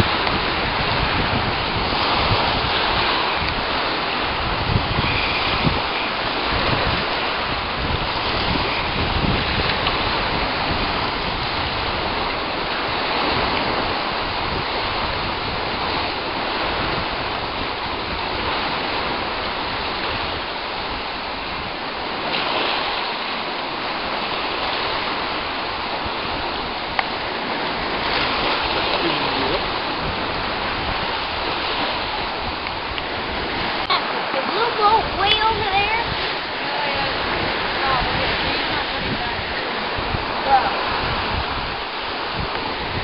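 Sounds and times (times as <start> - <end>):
choppy seawater rushing: 0.0 - 43.0
wind gusting on microphone: 0.0 - 43.0.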